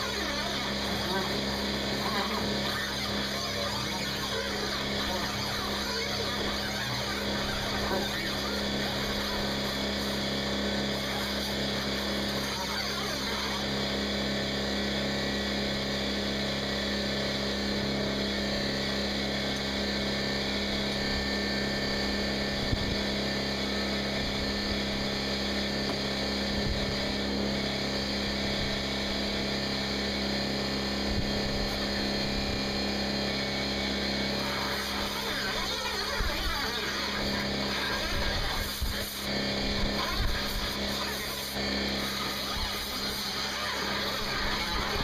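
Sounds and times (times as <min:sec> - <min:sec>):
motor humming: 0:00.0 - 0:45.0.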